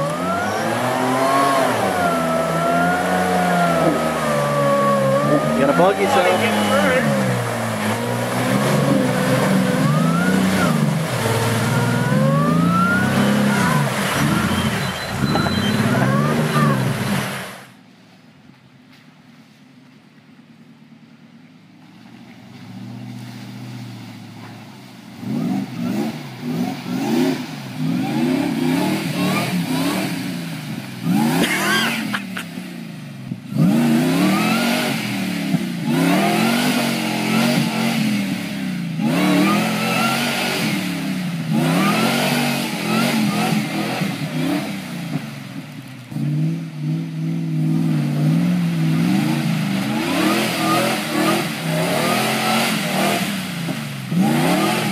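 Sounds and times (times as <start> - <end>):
engine revving: 0.0 - 17.6, 25.1 - 32.2, 33.5 - 45.3, 46.1 - 54.9
mud and water splashing: 0.0 - 17.8, 21.7 - 54.9.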